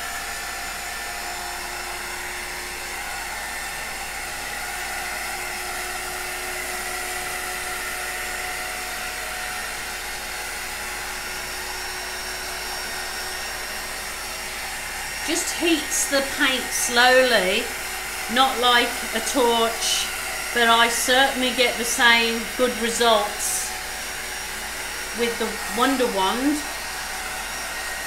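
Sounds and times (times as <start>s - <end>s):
heat tool fan blowing: 0.0s - 28.0s.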